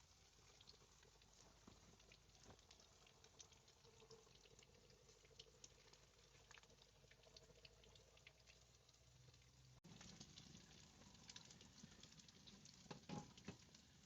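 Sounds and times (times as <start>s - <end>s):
water bubbling in a pot: 0.0s - 14.0s
small ticks and pops: 0.5s - 14.0s.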